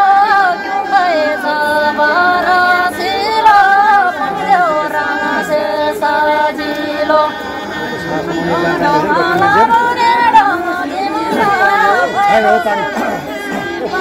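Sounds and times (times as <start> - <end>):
woman singing folk melody: 0.0 - 7.6, 8.8 - 14.0.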